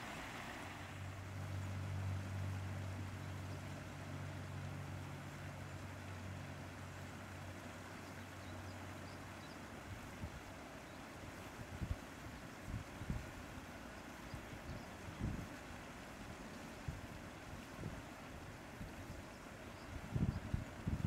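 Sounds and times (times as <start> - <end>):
steady background hiss: 0.0 - 20.9
low steady engine hum: 0.0 - 21.0.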